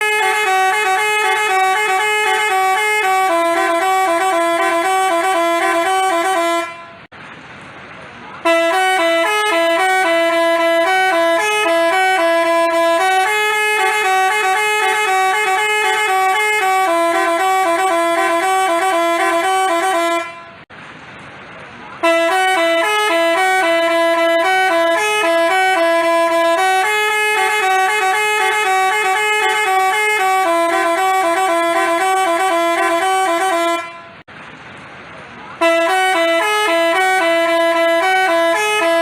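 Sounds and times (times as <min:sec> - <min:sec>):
multi-tone musical bus horn: 0:00.0 - 0:07.1, 0:08.4 - 0:20.7, 0:22.0 - 0:34.3, 0:35.6 - 0:39.0.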